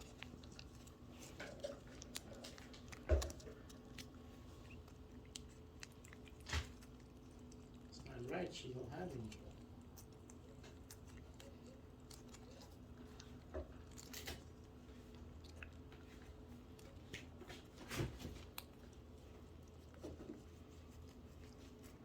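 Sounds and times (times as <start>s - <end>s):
cat chewing treats: 0.0s - 22.0s
low steady hum: 0.0s - 22.0s.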